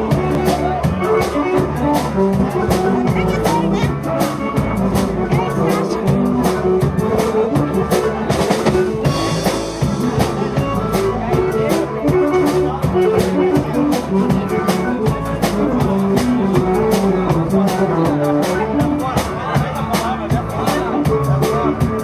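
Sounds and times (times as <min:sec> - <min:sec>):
band playing instrumental music: 0:00.0 - 0:22.0
drum kit beat: 0:00.0 - 0:22.0.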